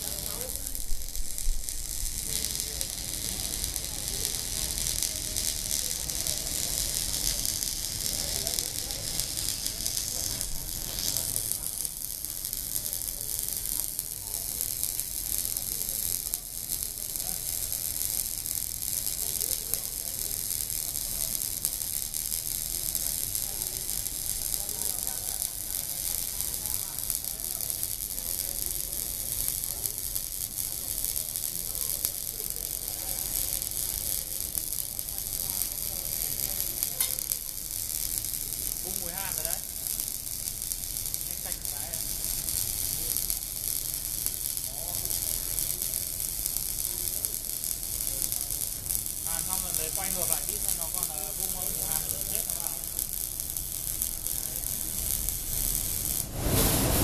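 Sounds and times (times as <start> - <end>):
welding arc crackling: 0.0 - 57.0.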